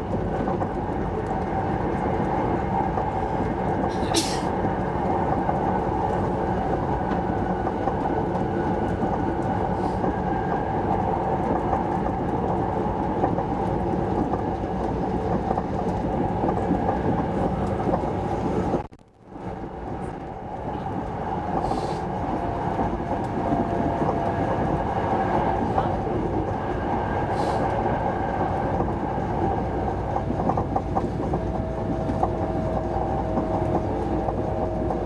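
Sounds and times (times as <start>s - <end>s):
train running noise from inside: 0.0s - 35.0s.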